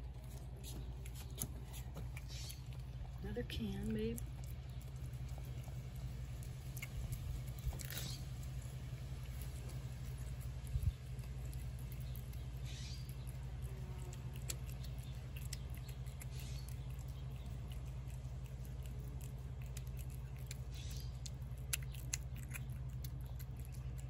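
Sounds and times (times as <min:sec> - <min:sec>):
cat chewing wet food: 0:00.0 - 0:24.0
steady low hum: 0:00.0 - 0:24.0.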